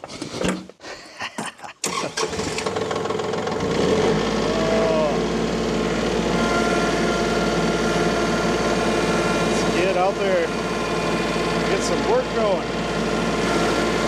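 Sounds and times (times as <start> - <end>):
tractor engine starting and idling: 1.8 - 14.0.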